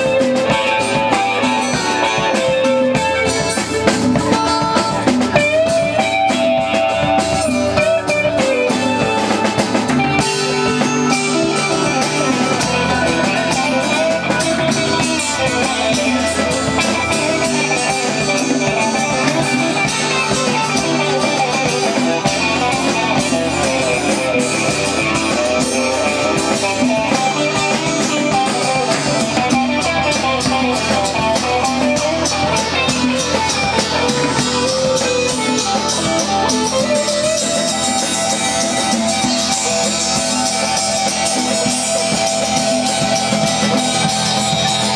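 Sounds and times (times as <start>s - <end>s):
drum beat: 0.0s - 44.9s
guitars playing: 0.0s - 44.9s.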